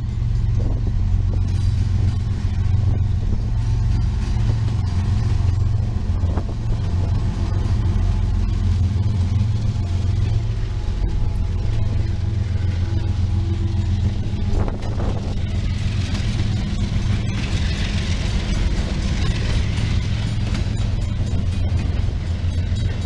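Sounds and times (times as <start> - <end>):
diesel locomotive engine rumble: 0.0 - 23.0
freight cars rolling past: 0.0 - 23.0.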